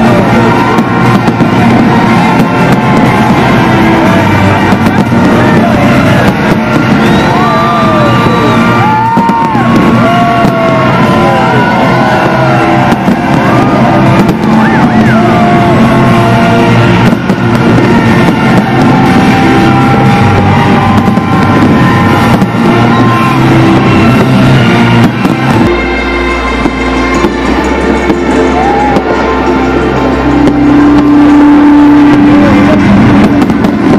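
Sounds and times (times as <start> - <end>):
firework bangs: 0.0 - 33.9
loud music: 0.0 - 33.9.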